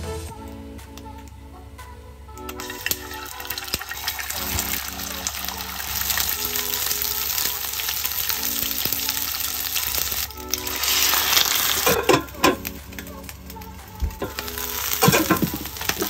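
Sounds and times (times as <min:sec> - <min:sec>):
oil sizzling in frying pan: 0:02.6 - 0:16.0.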